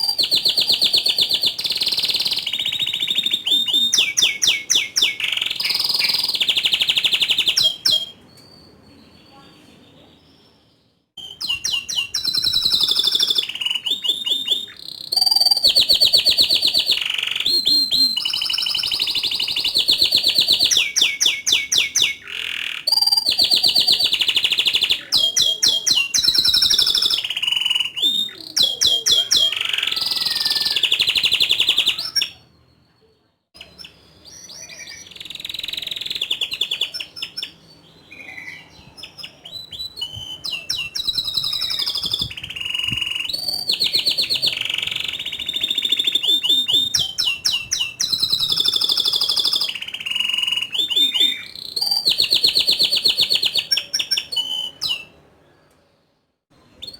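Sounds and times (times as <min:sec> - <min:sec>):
canary singing trills: 0:00.0 - 0:55.7.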